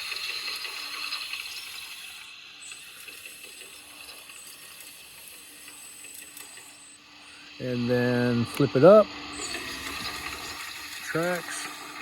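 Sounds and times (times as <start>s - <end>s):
toy excavator motors whirring: 0.0s - 12.0s.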